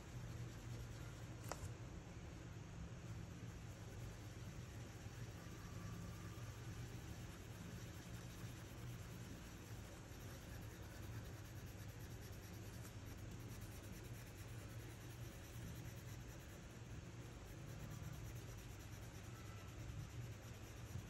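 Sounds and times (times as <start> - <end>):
cotton swab rubbing on paper: 0.0 - 1.2, 3.6 - 21.0
low steady hum: 0.0 - 21.0.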